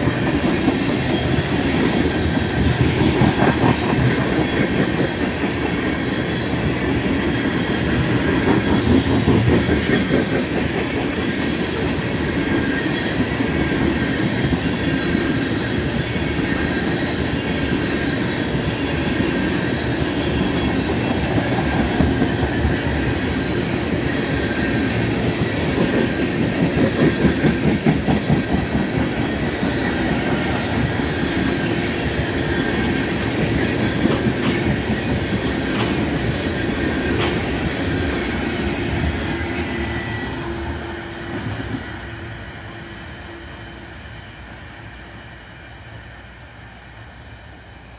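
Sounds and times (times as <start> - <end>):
wheels clacking over rail joints: 0.0 - 39.5.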